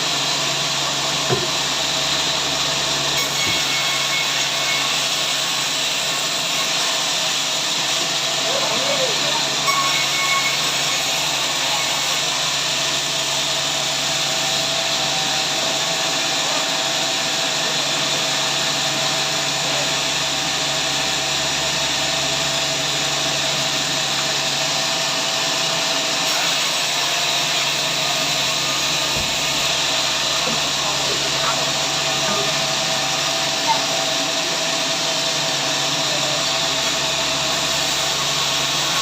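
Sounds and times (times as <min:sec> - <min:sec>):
sawmill machinery whirring: 0:00.0 - 0:39.0.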